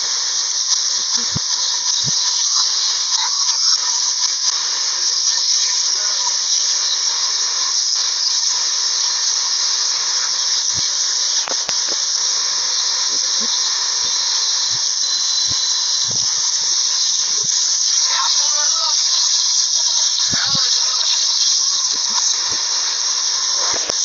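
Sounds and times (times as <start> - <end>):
loud steady hiss: 0.0 - 24.0.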